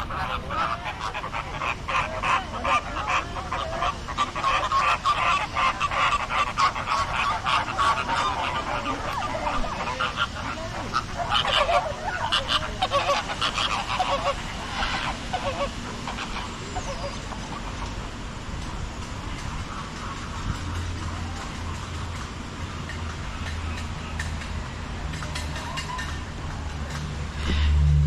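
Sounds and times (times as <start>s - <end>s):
flock of birds calling: 0.0s - 27.8s.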